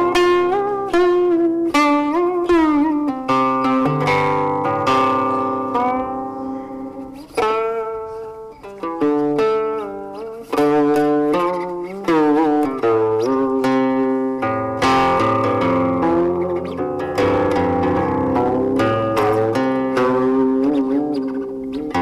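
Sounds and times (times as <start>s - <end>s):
plucked string instrument music: 0.0s - 22.0s.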